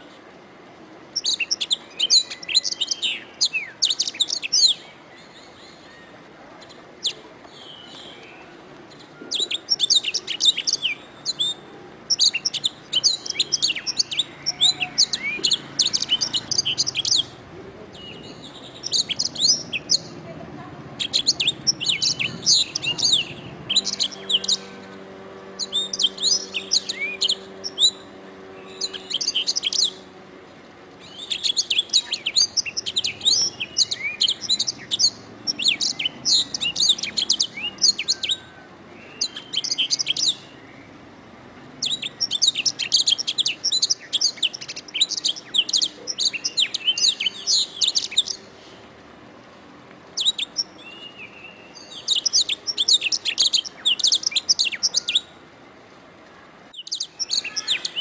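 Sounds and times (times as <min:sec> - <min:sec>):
canary singing trills: 0:01.1 - 0:48.7, 0:50.2 - 0:55.4, 0:56.7 - 0:58.0.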